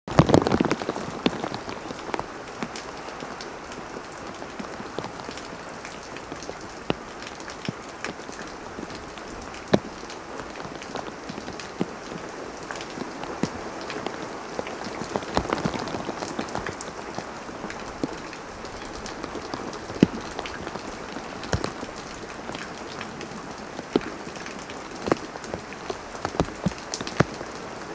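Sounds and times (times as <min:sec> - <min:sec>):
heavy rain on trees: 0:00.1 - 0:27.9
raindrops ticking close by: 0:00.1 - 0:27.9.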